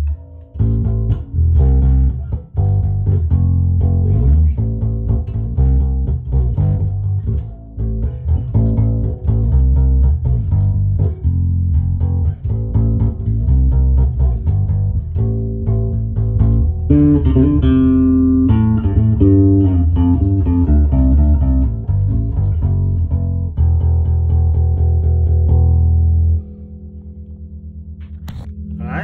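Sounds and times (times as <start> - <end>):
electric bass guitar notes: 0.0 - 29.0.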